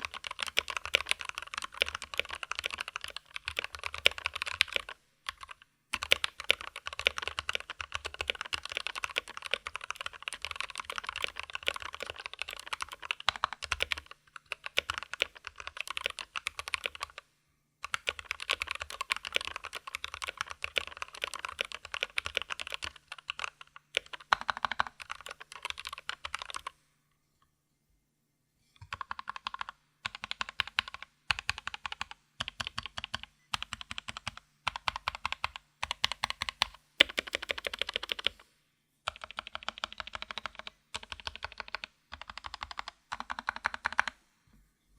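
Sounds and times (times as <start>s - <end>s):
fast mechanical keyboard typing: 0.0s - 17.2s, 17.8s - 26.7s, 28.8s - 38.4s, 39.1s - 44.2s.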